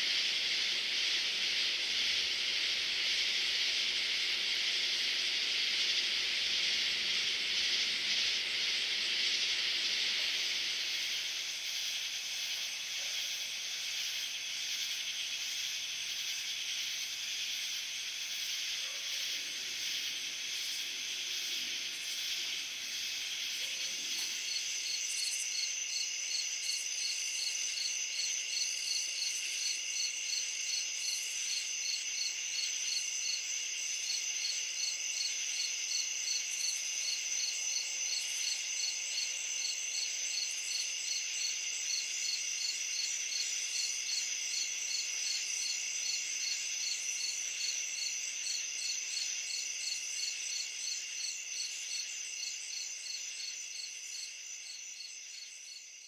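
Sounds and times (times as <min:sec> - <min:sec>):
cricket chirping in a pulse: 0:00.0 - 0:56.0
crickets trilling: 0:00.0 - 0:56.0.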